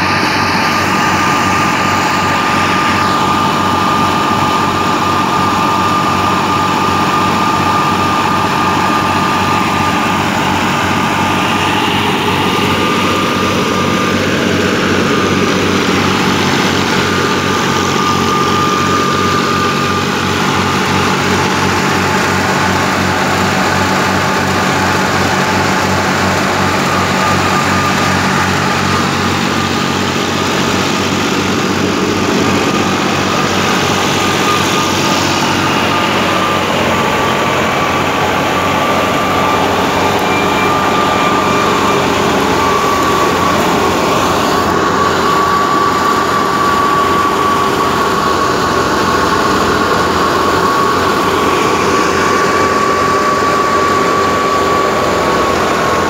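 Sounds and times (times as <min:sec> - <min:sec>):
thin high whine: 0:00.0 - 0:56.0
tractor engine running: 0:00.0 - 0:56.0.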